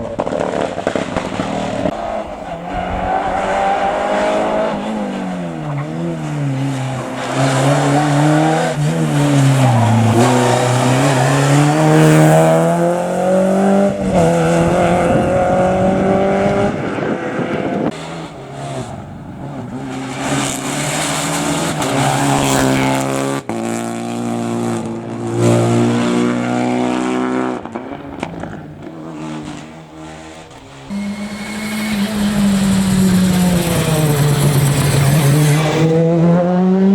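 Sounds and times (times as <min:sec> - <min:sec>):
rally car engines at full throttle: 0:00.0 - 0:36.9.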